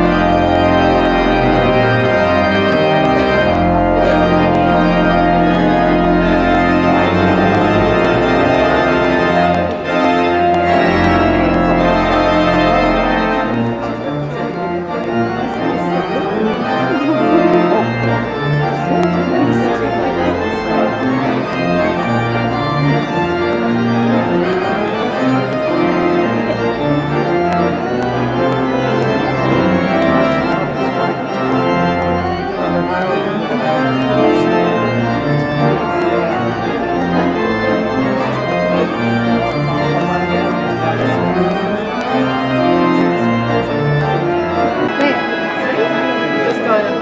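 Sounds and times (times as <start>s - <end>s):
pipe organ playing held chords: 0.0s - 47.0s.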